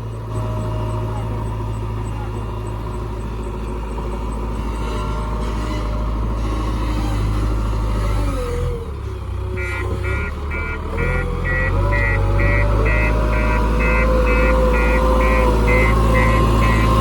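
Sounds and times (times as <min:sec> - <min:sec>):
reversing alarm beeping: 0:00.0 - 0:06.8, 0:09.6 - 0:17.0
backhoe diesel engine running: 0:00.0 - 0:17.0.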